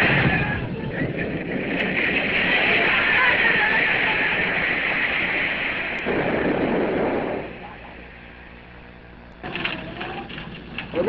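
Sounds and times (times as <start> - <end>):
mains hum: 0.0 - 11.0
old radio recording hiss: 0.0 - 11.0.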